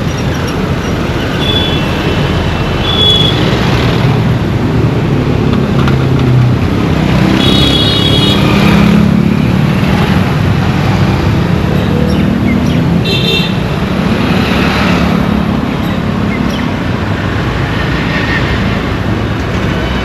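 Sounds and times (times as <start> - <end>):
traffic engines rumbling: 0.0 - 20.0.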